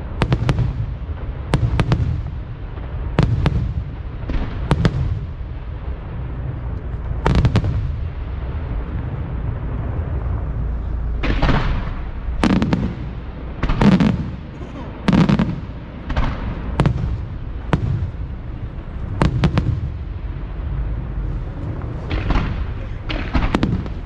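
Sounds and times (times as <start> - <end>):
fireworks bangs: 0.0 - 24.0
low background noise: 0.0 - 24.0.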